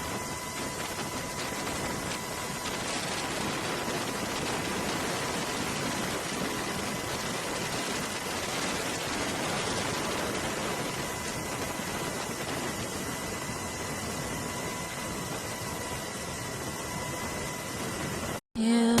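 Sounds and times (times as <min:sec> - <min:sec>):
steady rushing noise: 0:00.0 - 0:18.4.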